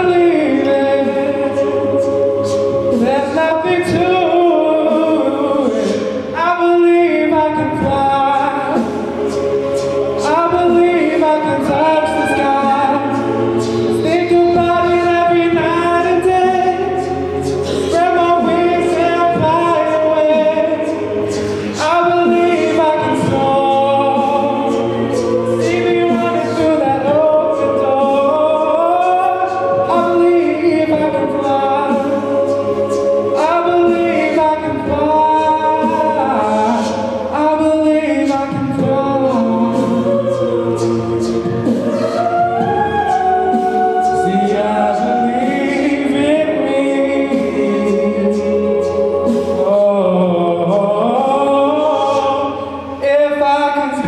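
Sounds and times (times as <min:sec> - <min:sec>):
backing vocal harmonies: 0:00.0 - 0:54.0
male lead voice singing: 0:00.0 - 0:54.0.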